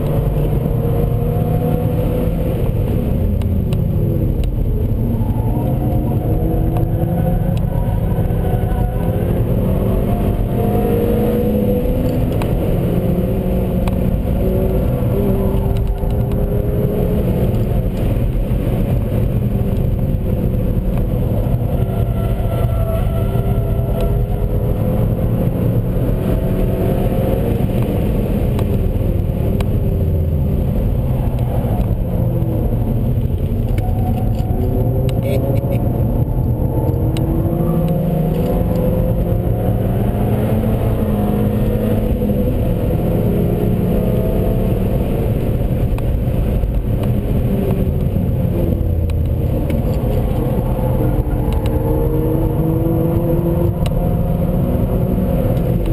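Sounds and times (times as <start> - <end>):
car engine revving: 0.0 - 55.9
road noise rumble: 0.0 - 55.9.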